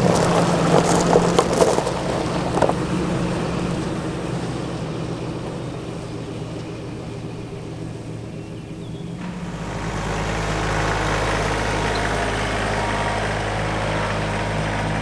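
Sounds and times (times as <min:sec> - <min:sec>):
pickup truck engine humming: 0:00.0 - 0:15.0.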